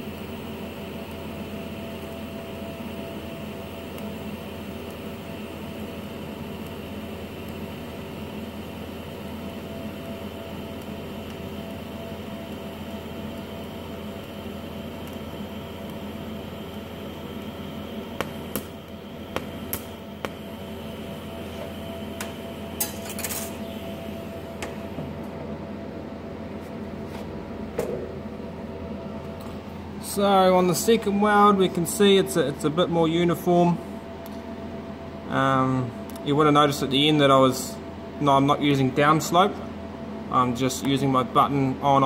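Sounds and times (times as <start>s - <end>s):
welding set hum: 0.0s - 42.0s.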